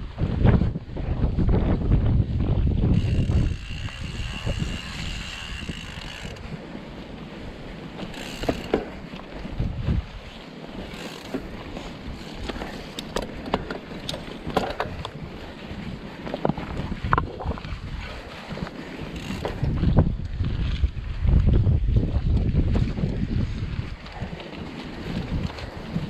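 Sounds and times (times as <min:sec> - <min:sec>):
wind buffeting microphone: 0:00.0 - 0:26.0
bike clicks and rattles: 0:02.4 - 0:26.0.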